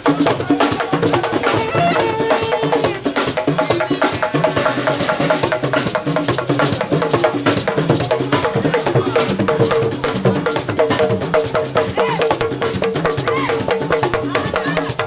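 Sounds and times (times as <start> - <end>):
live band music: 0.0 - 15.0
rapid hand-drum strokes: 0.0 - 15.0.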